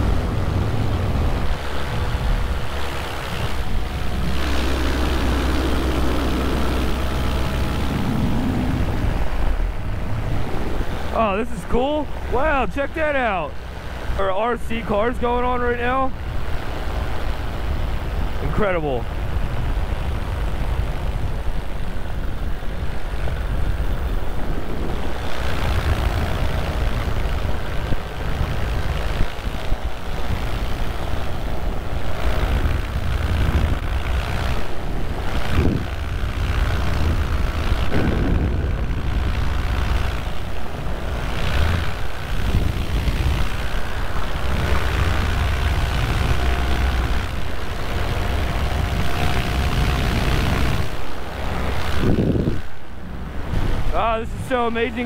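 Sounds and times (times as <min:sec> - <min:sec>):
paramotor engine running: 0:00.0 - 0:55.0
wind rumble on microphone: 0:00.0 - 0:55.0.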